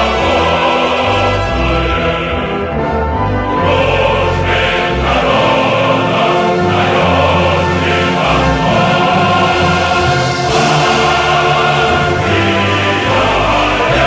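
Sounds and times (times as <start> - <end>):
choir singing long notes: 0.0 - 14.0.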